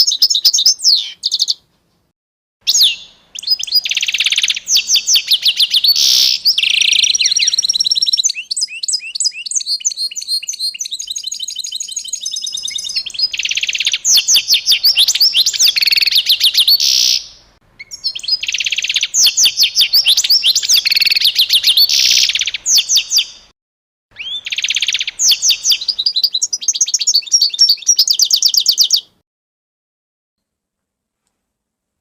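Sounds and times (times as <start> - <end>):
songbird singing trills: 0.0 - 1.6, 2.7 - 23.5, 24.1 - 29.2.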